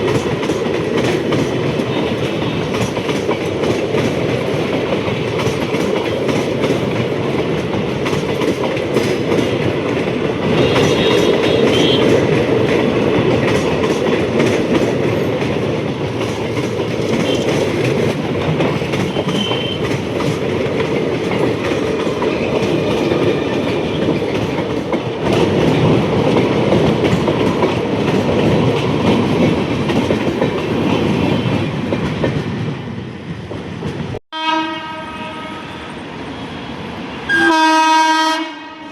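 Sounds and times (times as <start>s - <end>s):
clickety-clack of rail joints: 0.0s - 34.2s
train wheels rumbling: 0.0s - 38.9s.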